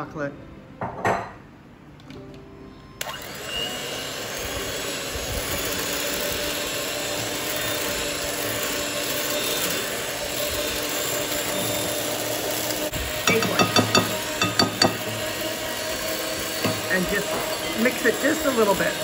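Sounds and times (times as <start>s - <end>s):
electric hand mixer whisking: 3.0s - 19.0s.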